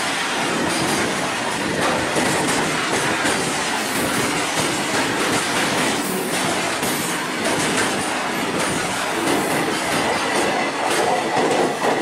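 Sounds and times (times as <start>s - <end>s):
train wheels rushing on rail: 0.0s - 12.0s
wheels clacking over rail joints: 0.0s - 12.0s.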